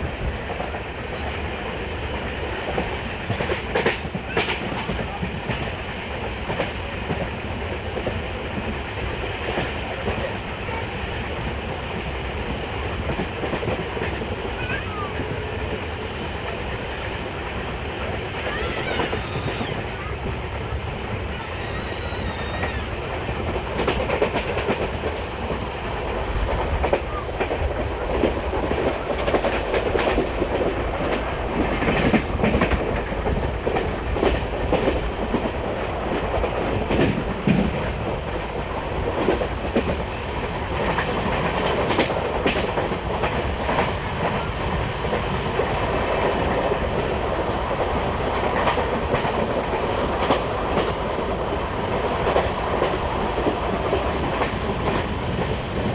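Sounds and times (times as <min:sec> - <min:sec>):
train rolling rumble: 0:00.0 - 0:55.9.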